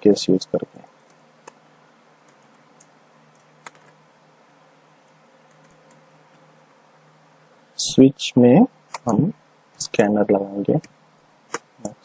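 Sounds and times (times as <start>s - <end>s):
low steady room hum: 0.0s - 12.0s.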